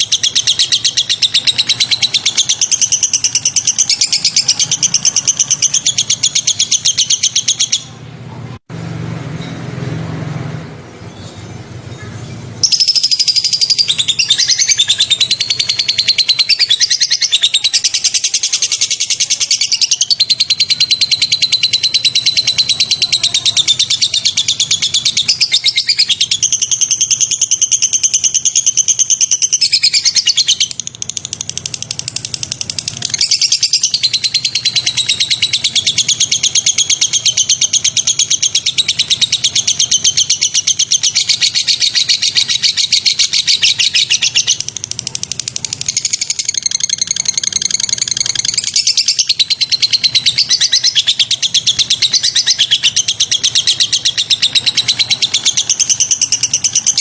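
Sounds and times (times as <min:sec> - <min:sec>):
songbird chirping in trills: 0:00.0 - 0:08.3, 0:10.3 - 0:57.0.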